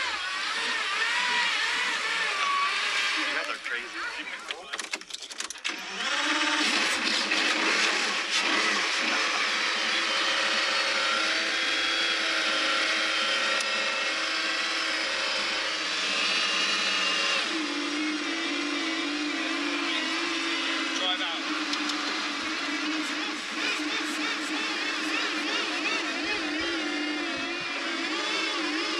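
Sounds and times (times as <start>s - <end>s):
car engine idling with whine: 0.0s - 28.9s.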